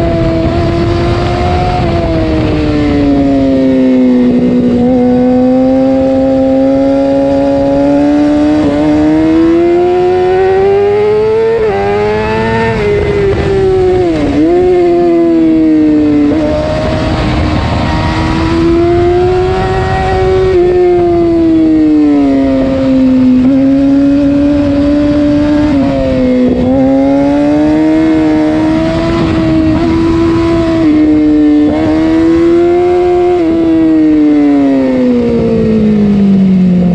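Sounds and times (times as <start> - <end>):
sport motorcycle engine revving: 0.0 - 36.9.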